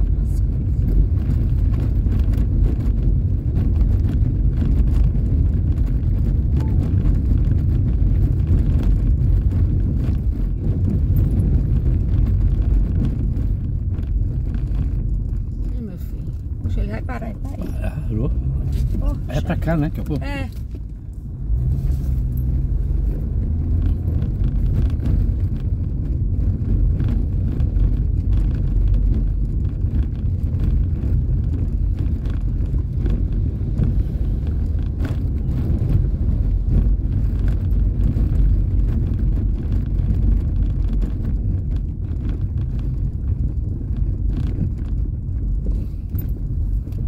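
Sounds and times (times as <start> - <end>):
tyres rumbling on cobblestones: 0.0 - 47.0.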